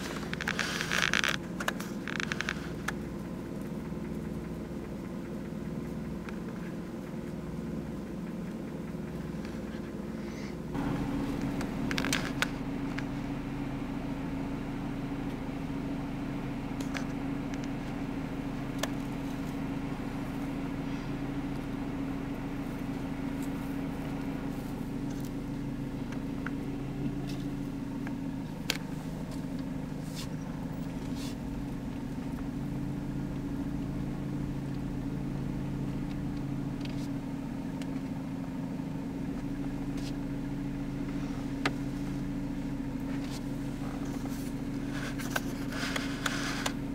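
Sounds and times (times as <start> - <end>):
vehicle engine idling: 0.0 - 46.9.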